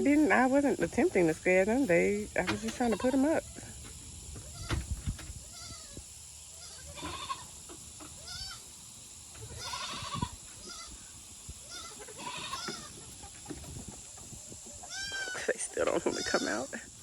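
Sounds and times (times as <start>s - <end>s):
chickens calling: 0.0s - 17.0s.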